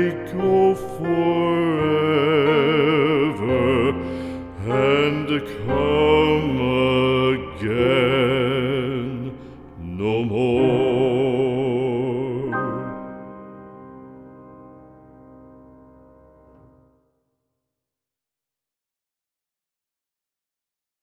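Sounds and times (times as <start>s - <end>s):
slow sad music: 0.0s - 17.0s.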